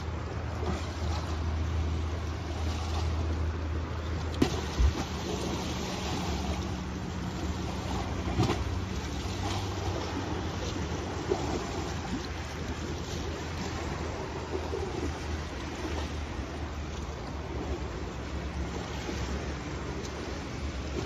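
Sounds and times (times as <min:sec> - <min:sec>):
low steady hum: 0:00.0 - 0:21.0
sea surf on breakwater: 0:00.0 - 0:21.0
wind: 0:00.0 - 0:21.0.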